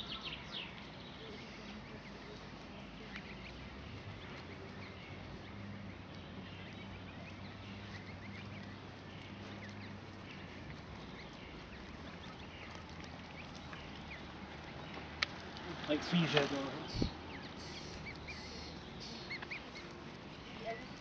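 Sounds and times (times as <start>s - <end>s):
goslings peeping: 0.0s - 21.0s.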